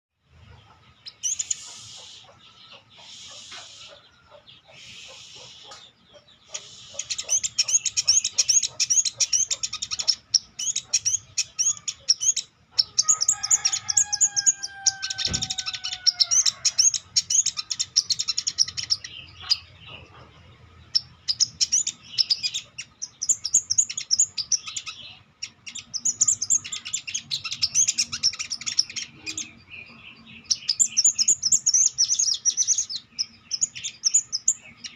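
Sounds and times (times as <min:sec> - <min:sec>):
songbird chattering: 0:00.4 - 0:34.9.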